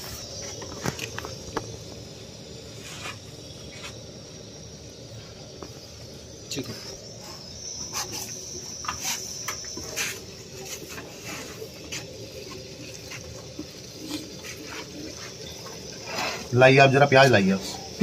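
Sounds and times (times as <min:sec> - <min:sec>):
butter sizzling and crackling: 0:00.0 - 0:18.0.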